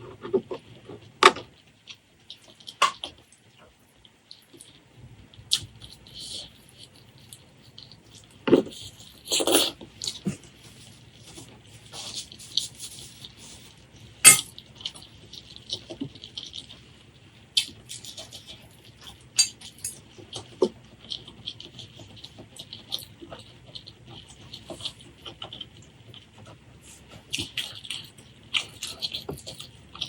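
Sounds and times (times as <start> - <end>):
wet chewing and mouth smacks: 1.9 - 30.0.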